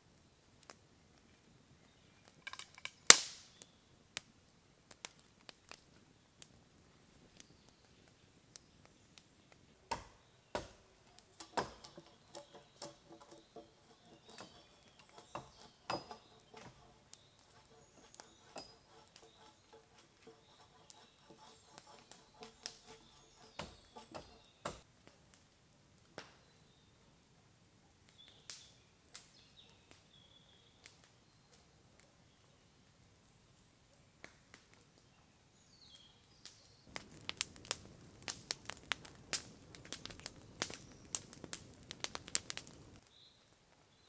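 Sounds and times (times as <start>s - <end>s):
campfire crackling and popping: 0.5s - 1.2s, 1.8s - 26.5s, 28.0s - 30.1s, 34.2s - 35.1s, 35.9s - 43.9s.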